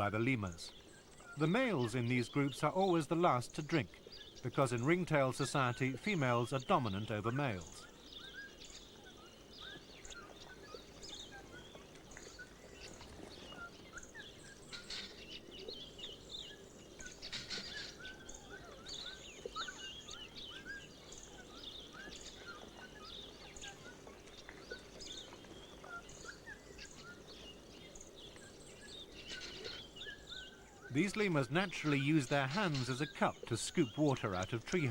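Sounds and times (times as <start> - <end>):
wild birds chirping: 0.0 - 34.9.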